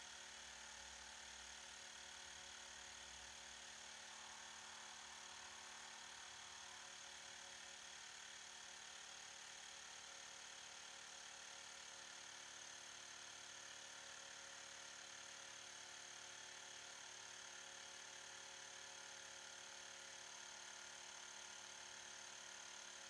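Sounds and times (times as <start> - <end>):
electric air compressor whirring: 1.3 - 23.0.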